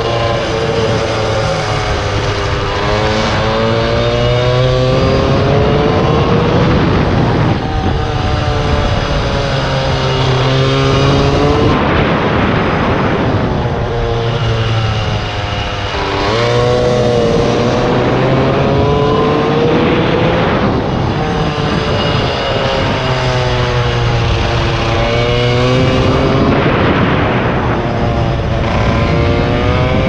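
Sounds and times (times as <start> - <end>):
motorcycle engine revving: 0.0 - 30.0
wind rushing over microphone: 0.0 - 30.0.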